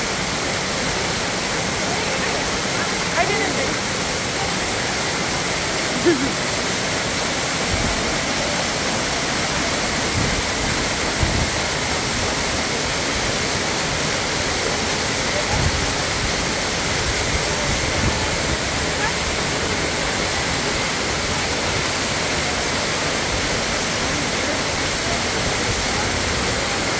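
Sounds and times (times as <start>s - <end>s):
waterfall pouring onto rocks: 0.0s - 26.9s.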